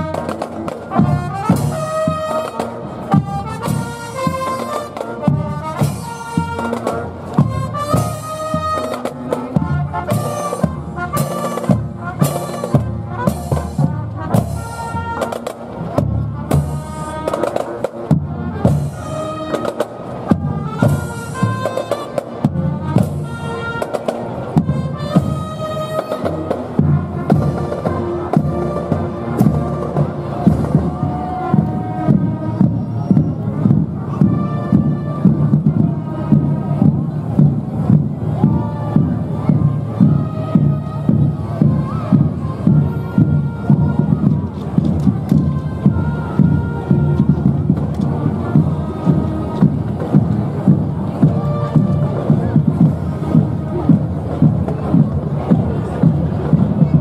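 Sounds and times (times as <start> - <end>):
marching band playing: 0.0 - 57.0
steady drum beat: 0.0 - 57.0.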